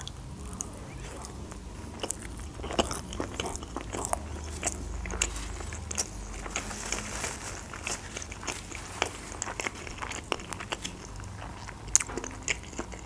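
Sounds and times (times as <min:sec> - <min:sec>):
chewing with mouth clicks: 0:00.0 - 0:13.0.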